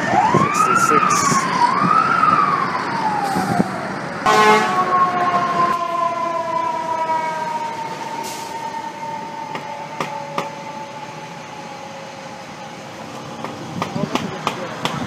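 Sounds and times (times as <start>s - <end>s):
fire engine siren winding down: 0.0s - 13.7s
traffic noise: 0.0s - 15.0s.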